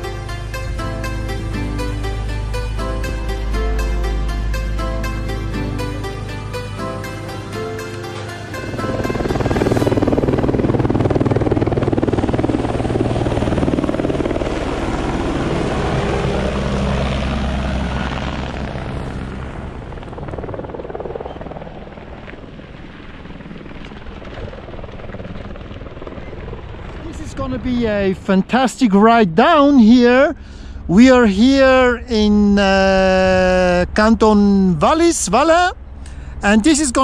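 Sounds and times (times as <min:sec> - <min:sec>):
helicopter flying past: 0:00.0 - 0:37.0.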